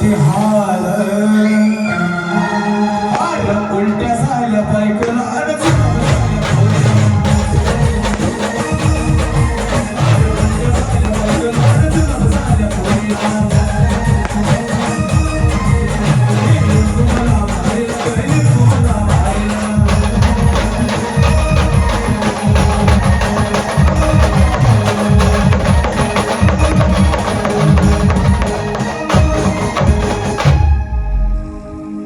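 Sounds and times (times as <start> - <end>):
held brass notes: 0.0 - 32.0
fast drumming: 5.0 - 30.8.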